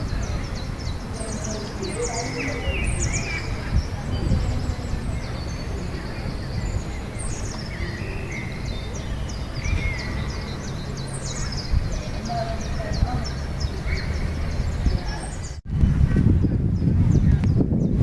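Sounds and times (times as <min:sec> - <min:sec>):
small birds chirping and singing: 0:00.0 - 0:18.0.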